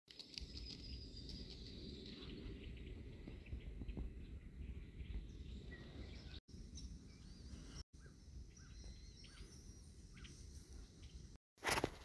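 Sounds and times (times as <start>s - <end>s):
small birds chirping: 0.1s - 11.4s.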